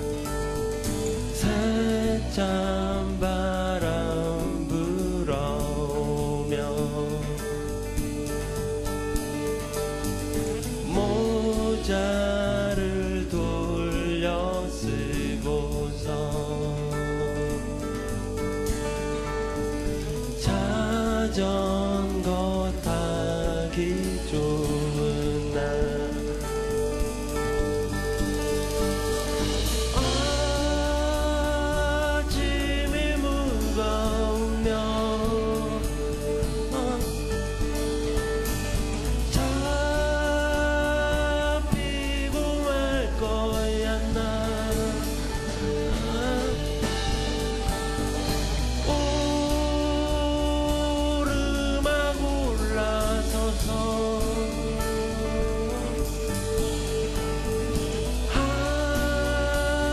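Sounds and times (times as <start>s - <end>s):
man singing long held notes: 0.0s - 8.2s, 10.6s - 18.6s, 19.5s - 59.9s
acoustic guitars: 0.0s - 59.9s
drums: 0.0s - 59.9s
keyboard: 0.0s - 59.9s
upright bass: 0.0s - 59.9s.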